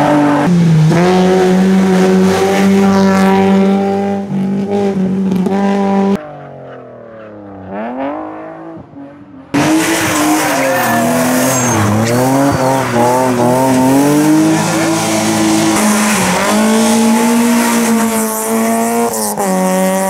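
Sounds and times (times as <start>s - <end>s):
distant car engine: 0.0s - 20.0s
race car engine at high revs: 0.0s - 20.0s.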